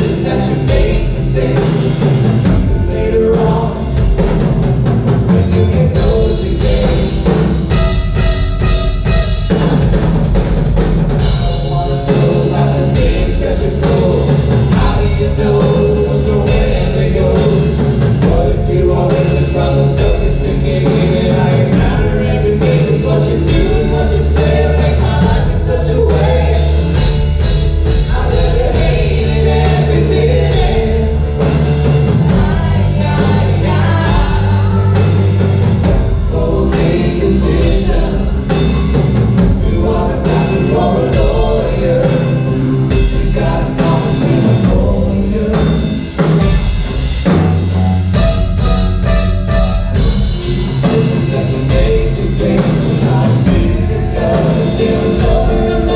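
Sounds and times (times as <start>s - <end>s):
people singing: 0.0s - 9.4s, 11.1s - 47.4s, 48.1s - 55.9s
drums: 0.0s - 55.9s
live band music: 0.0s - 55.9s.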